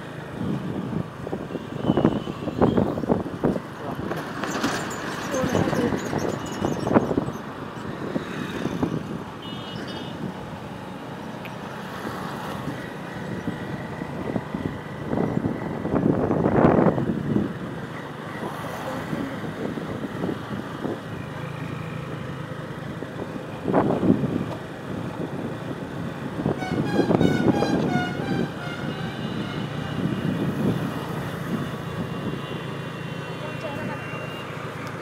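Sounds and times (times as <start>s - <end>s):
motorcycle engine and road noise: 0.0s - 35.0s.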